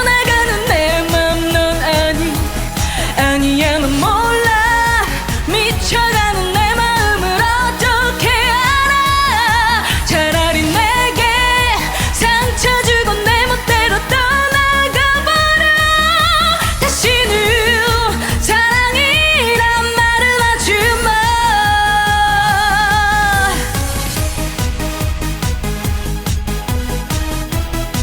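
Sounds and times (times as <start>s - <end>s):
trot song with vibrato singing: 0.0s - 28.0s.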